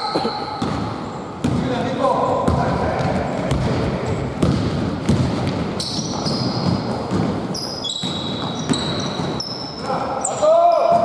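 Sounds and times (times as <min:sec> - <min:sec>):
sneakers squeaking: 0:00.0 - 0:01.7, 0:02.4 - 0:11.0
basketball bouncing on court floor: 0:00.0 - 0:01.8, 0:02.4 - 0:09.5.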